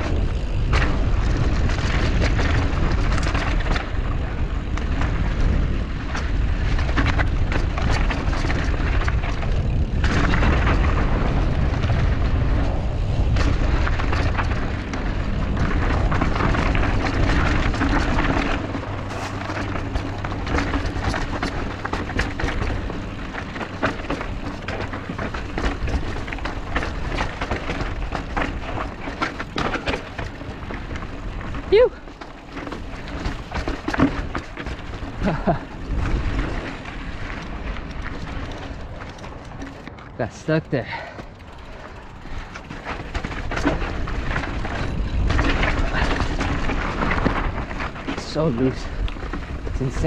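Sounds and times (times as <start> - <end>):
bike tyres rattling on loose rock: 0.0 - 50.0
wind buffeting microphone: 0.0 - 50.0.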